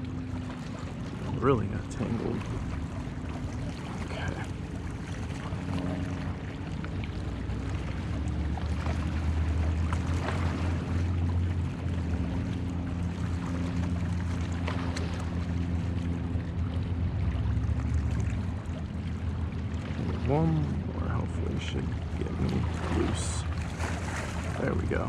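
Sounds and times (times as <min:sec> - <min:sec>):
motorboat engine drone: 0:00.0 - 0:25.0.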